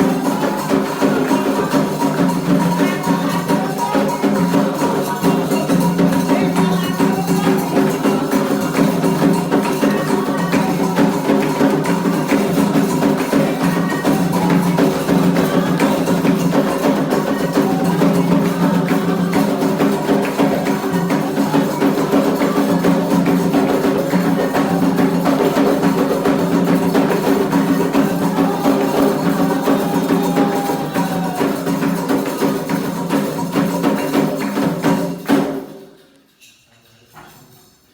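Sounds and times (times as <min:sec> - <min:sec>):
group of voices singing: 0:00.0 - 0:35.8
hand percussion beat: 0:00.0 - 0:36.6.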